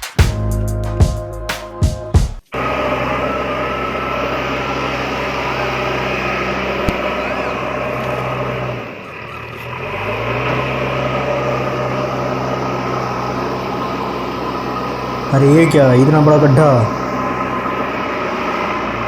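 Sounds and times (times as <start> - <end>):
tractor engine running: 2.6 - 19.0.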